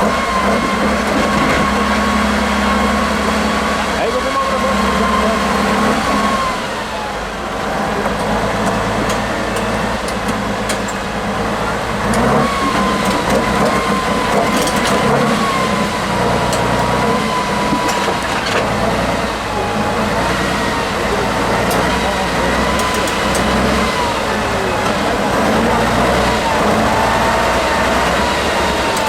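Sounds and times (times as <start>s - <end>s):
heavy diesel truck engine: 0.0s - 29.0s.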